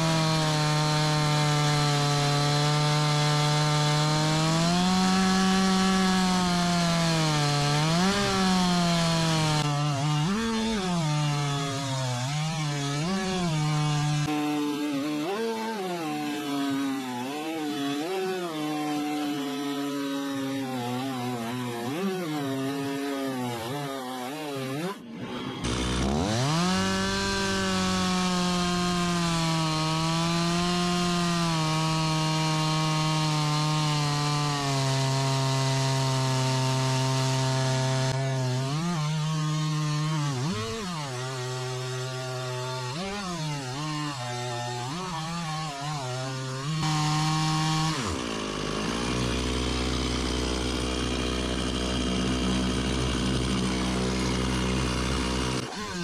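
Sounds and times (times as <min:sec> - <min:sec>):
chainsaw cutting a log: 0:00.0 - 0:56.0.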